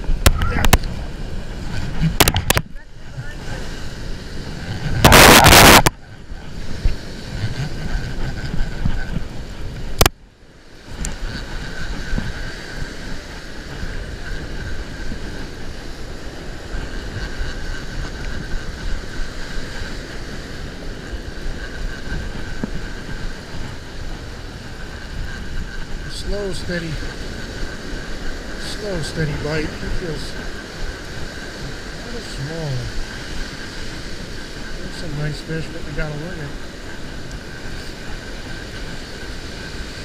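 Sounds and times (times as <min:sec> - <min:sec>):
ocean surf breaking on sand: 0:00.0 - 0:40.0
wind buffeting microphone: 0:00.0 - 0:40.0.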